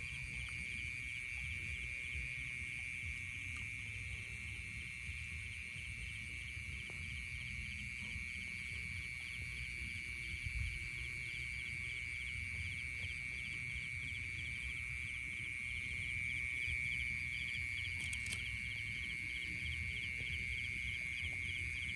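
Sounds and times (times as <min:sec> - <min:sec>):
insects chirping: 0:00.0 - 0:21.9
insects trilling: 0:00.0 - 0:21.9.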